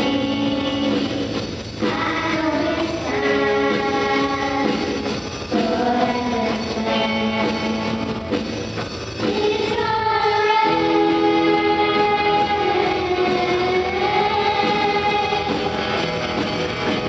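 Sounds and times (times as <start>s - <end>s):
voices singing: 0.0s - 8.3s, 9.2s - 16.4s
electronic drum kit: 0.0s - 17.0s
guitar: 0.0s - 17.0s.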